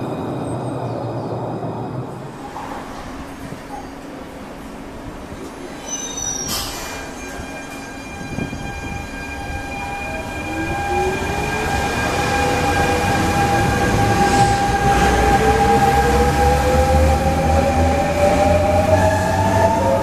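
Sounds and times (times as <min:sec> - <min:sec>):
rail noise: 0:00.0 - 0:20.0.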